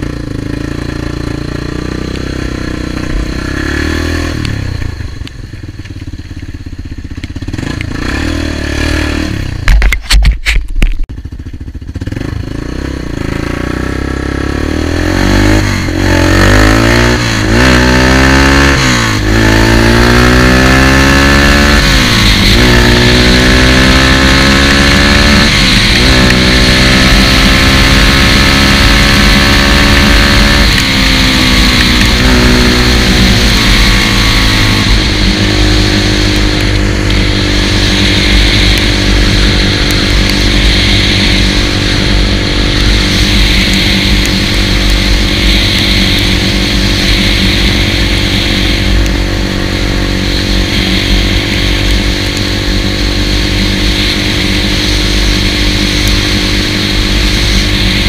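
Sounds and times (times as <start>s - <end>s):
atv engine accelerating: 0.0s - 9.9s, 11.1s - 58.0s.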